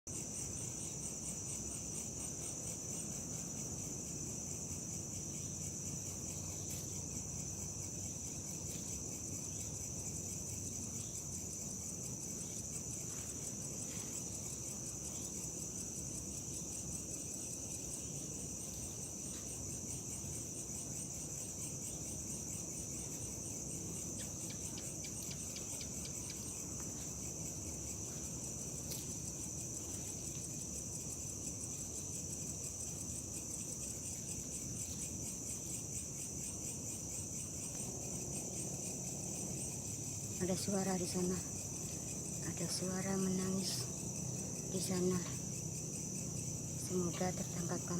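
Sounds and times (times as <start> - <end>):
crickets chirping: 0.1 - 47.9.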